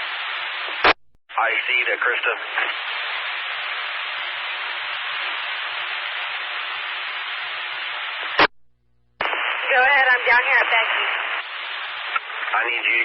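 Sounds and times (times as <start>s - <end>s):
radio scanner static hiss: 0.0s - 13.0s.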